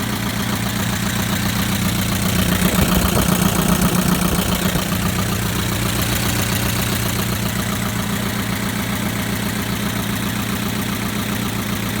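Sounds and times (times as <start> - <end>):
car engine idling with ticking: 0.0 - 12.0.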